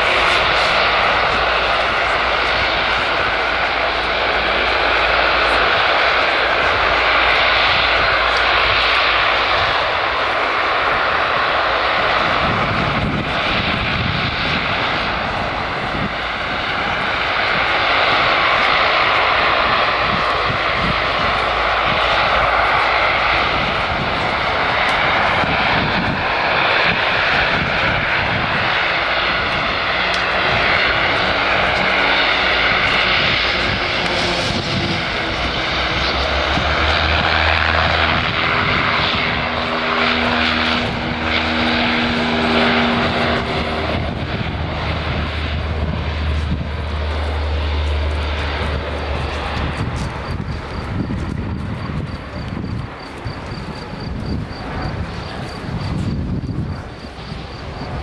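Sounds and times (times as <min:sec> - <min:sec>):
deep propeller hum: 0:00.0 - 0:58.0
turboprop engines roaring: 0:00.0 - 0:58.0.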